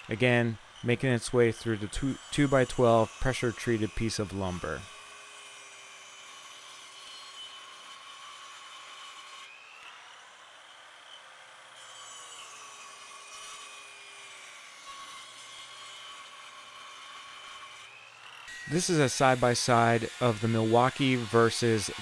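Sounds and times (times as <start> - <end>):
circular saw cutting wood: 0.0 - 22.0.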